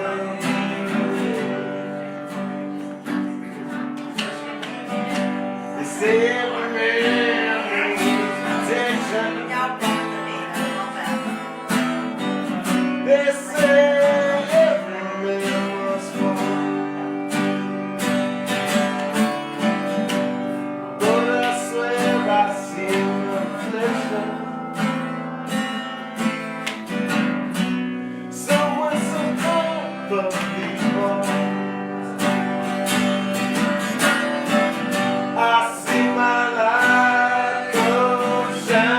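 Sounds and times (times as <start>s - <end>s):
acoustic guitar strumming: 0.0s - 38.9s
guitar melody line: 0.0s - 38.9s.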